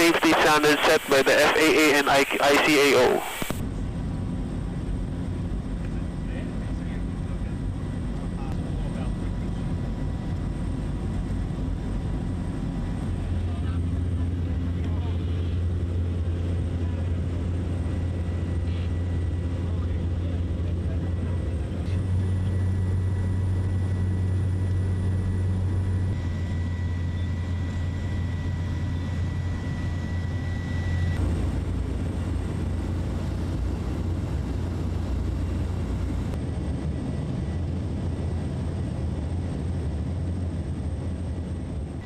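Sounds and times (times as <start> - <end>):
aircraft engine drone in cabin: 0.0 - 42.0.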